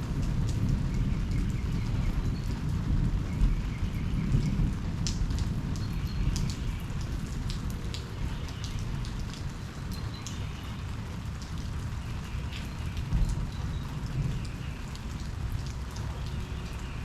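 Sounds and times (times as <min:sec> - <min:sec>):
low continuous rain rumble: 0:00.0 - 0:17.0
raindrops ticking on surface: 0:00.0 - 0:17.0.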